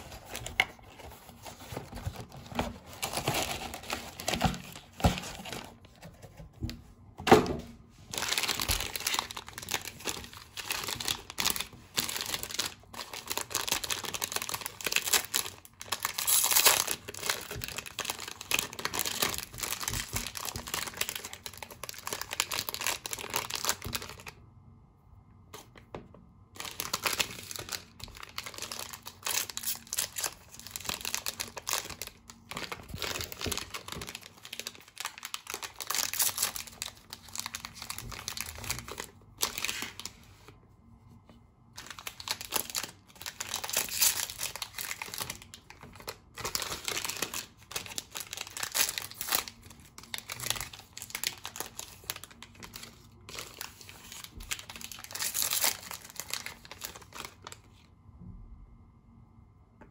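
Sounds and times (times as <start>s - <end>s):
plastic wrappers torn and crumpled: 0.0s - 6.4s, 8.1s - 24.4s, 26.6s - 40.2s, 41.8s - 57.7s.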